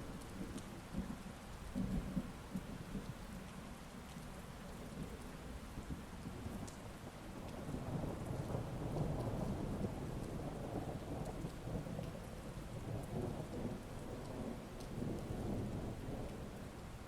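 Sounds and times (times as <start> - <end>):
low rumble of thunder: 0.0 - 3.2, 4.8 - 17.0
heavy rain: 0.0 - 17.0.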